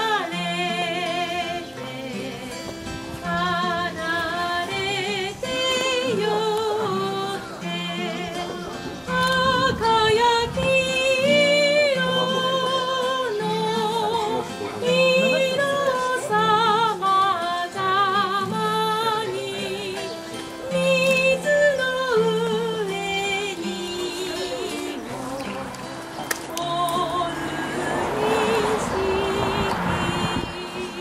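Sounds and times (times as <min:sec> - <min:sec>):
acoustic guitar: 0:00.0 - 0:31.0
woman singing with vibrato: 0:00.0 - 0:31.0.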